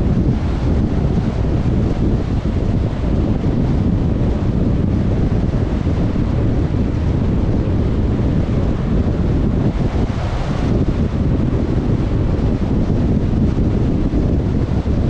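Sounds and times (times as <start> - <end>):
car wind and road noise: 0.0 - 15.0.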